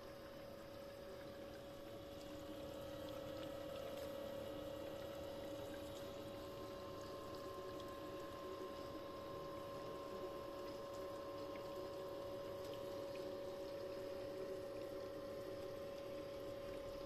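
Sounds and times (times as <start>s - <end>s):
coolant flowing: 0.0s - 17.0s
water pump humming: 0.0s - 17.0s.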